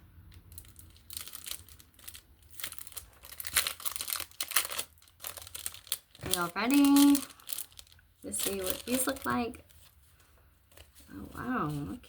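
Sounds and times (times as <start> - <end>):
plastic packaging crinkling: 0.3 - 12.0.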